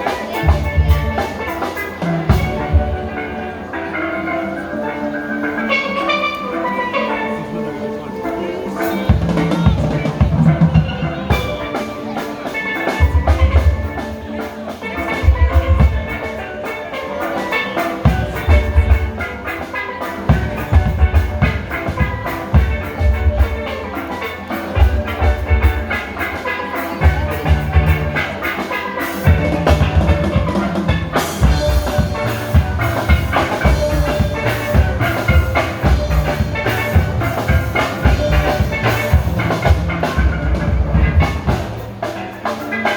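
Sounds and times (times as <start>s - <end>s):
drum kit beat: 0.0s - 7.4s, 8.2s - 42.9s
steel band playing: 0.0s - 42.9s
steelpans ringing a melody: 0.0s - 42.9s.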